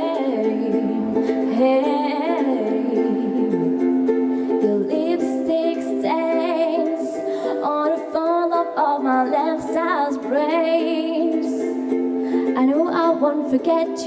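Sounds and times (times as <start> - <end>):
person singing: 0.0 - 14.0
ukulele strumming chords: 0.0 - 14.0.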